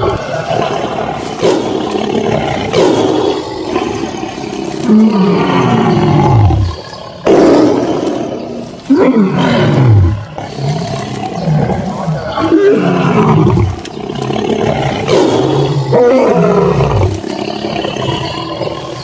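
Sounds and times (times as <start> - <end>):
deep animal roars: 0.0 - 19.0.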